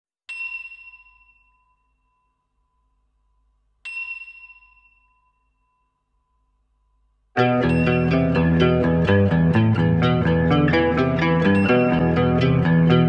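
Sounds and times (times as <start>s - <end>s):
metallic bell chime: 0.3s - 13.0s.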